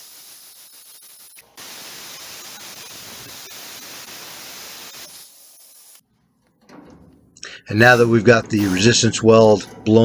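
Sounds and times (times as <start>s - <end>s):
plasma cutter hissing: 0.0s - 6.0s, 7.7s - 9.8s.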